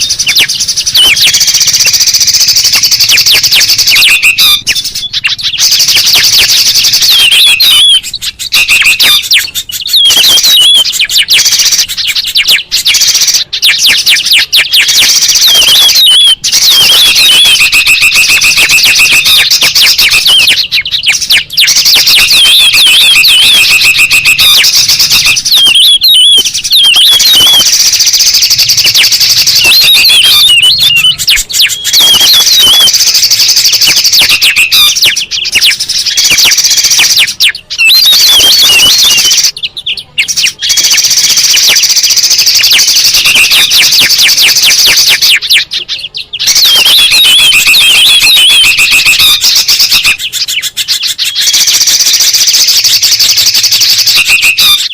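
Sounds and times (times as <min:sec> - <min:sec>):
songbirds chattering: 0:00.0 - 0:54.9.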